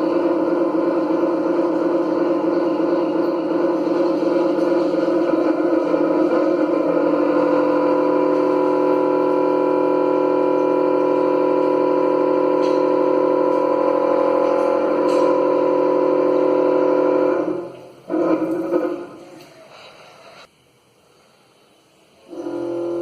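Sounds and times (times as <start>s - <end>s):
water tap droning tone: 0.0s - 19.7s, 20.4s - 23.0s.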